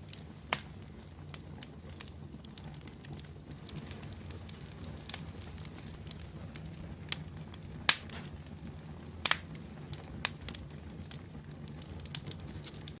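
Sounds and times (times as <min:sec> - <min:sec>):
open fire crackling and popping: 0:00.0 - 0:13.0.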